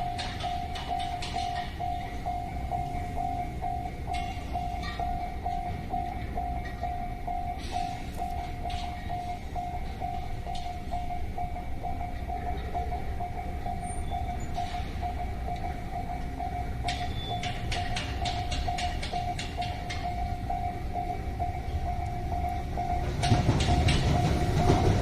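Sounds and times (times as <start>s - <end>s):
railroad crossing alarm ringing: 0.0s - 25.0s.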